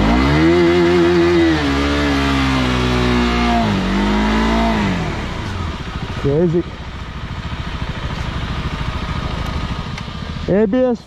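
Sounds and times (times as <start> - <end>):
motorcycle engine revving hard: 0.0 - 11.0.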